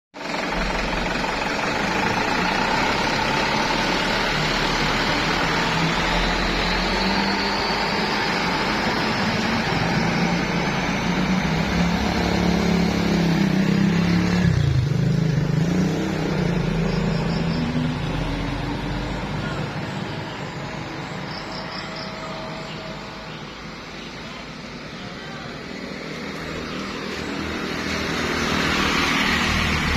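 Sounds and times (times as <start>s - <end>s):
truck engine running: 0.2s - 29.9s.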